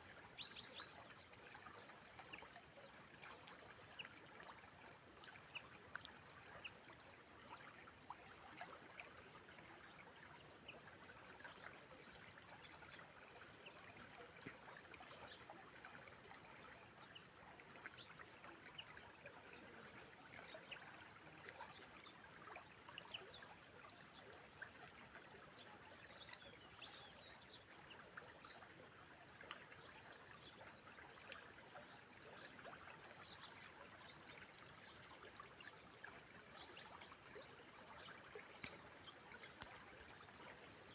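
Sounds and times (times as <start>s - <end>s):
river water babbling: 0.0s - 40.9s.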